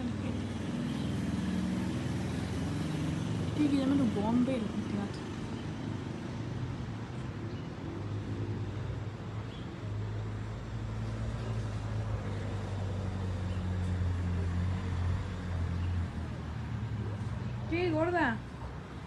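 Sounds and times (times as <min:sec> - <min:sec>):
road noise: 0:00.0 - 0:19.0
vehicle engine humming: 0:00.0 - 0:19.0.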